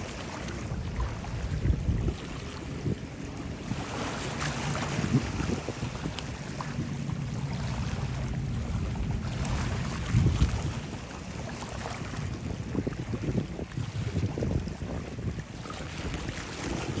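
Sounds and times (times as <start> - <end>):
low boat engine hum: 0.0 - 17.0
sea water washing: 0.0 - 17.0
wind buffeting microphone: 0.0 - 17.0.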